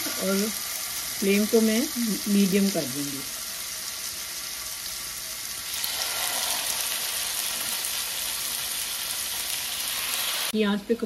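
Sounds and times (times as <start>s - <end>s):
chicken sizzling in hot oil: 0.0s - 10.7s.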